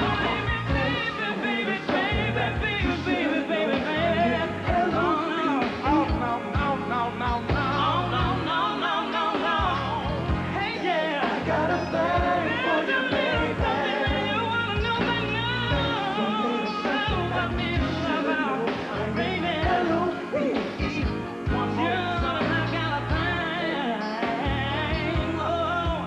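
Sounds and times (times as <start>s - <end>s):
live band playing: 0.0s - 26.0s
people singing: 0.0s - 26.0s.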